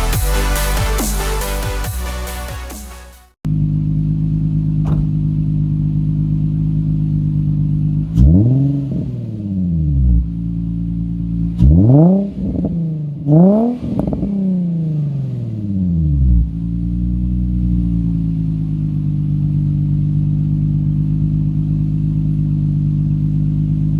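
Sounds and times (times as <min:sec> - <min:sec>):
car engine idling and revving: 0:03.4 - 0:23.9.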